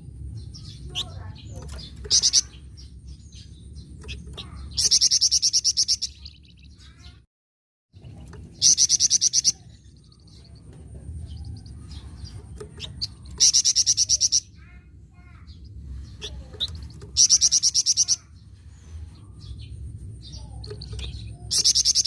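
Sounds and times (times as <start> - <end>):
soft bird chirps: 0.0 - 7.2, 8.0 - 22.0
songbird buzzy chattering trills: 0.4 - 7.2, 8.0 - 22.0.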